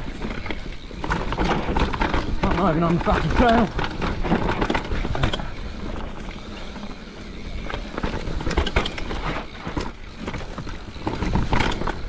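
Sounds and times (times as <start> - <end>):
bike knocking and rattling over bumps: 0.0 - 12.0
bike tyres rumbling on dirt: 0.0 - 12.0.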